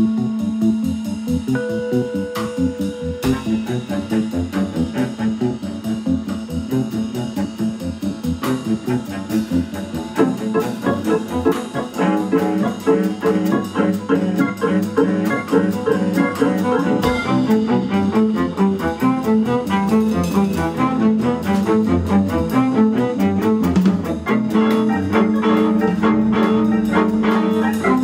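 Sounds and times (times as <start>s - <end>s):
drum kit steady beat: 0.0s - 28.0s
keyboard: 0.0s - 28.0s
live band playing instrumental music: 0.0s - 28.0s.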